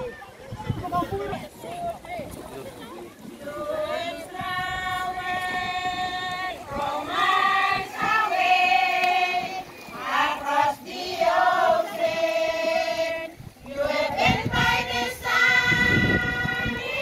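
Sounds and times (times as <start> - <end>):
women and children singing: 3.3 - 17.0.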